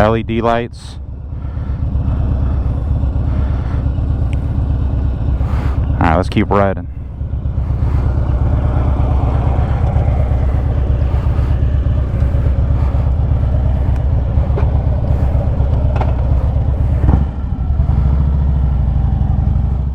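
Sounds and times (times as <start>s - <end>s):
motorcycle engine deep exhaust: 0.0s - 19.9s.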